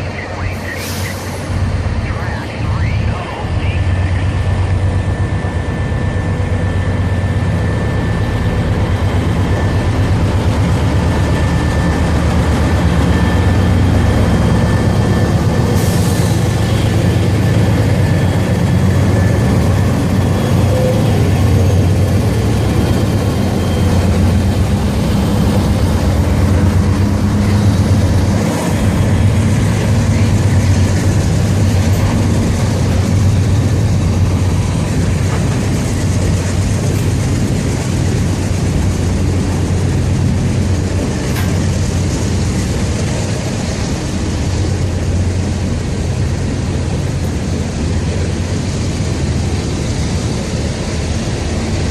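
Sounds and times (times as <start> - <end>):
diesel locomotive engines rumbling: 0.0 - 51.9.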